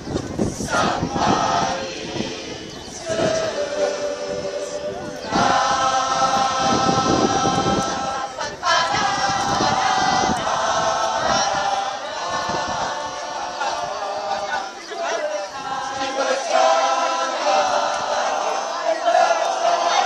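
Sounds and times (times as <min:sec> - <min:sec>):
choir singing chant-like song: 0:00.0 - 0:20.0.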